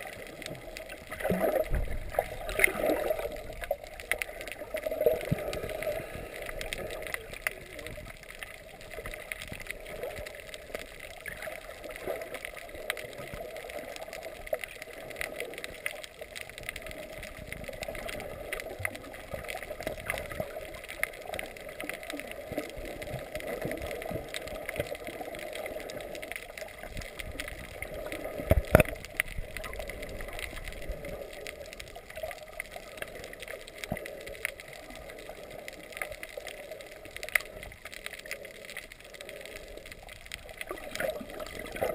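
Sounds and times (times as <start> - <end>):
faint clicks: 0.0 - 41.9
water hiss and gurgle: 0.0 - 41.9.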